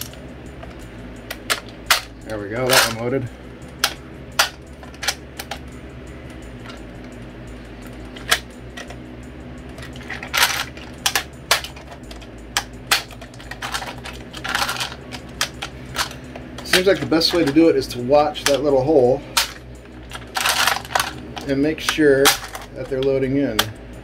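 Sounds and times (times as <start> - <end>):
cartridges rattling: 0.0 - 9.1, 9.7 - 23.8
low steady hum: 0.0 - 24.0.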